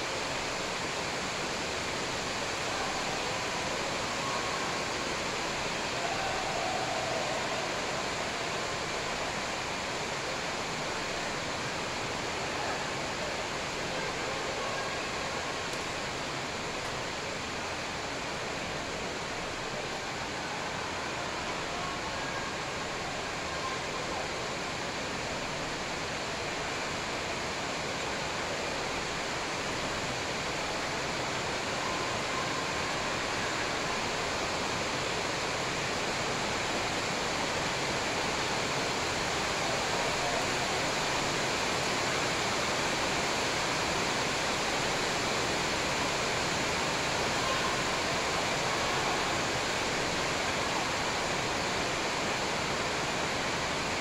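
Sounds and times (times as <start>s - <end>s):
steady hiss-like noise: 0.0s - 54.0s.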